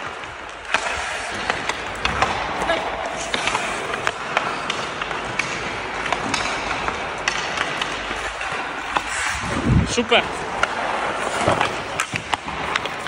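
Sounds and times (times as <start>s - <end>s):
stick tapping puck: 0.0s - 9.2s, 10.3s - 13.0s
skates scraping on ice: 0.0s - 13.0s.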